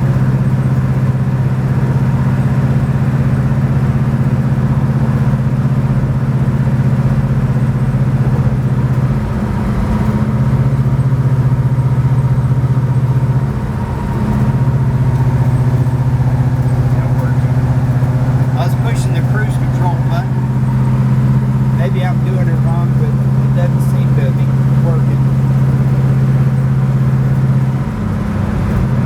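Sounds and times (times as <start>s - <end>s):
car engine droning at cruise: 0.0s - 29.0s.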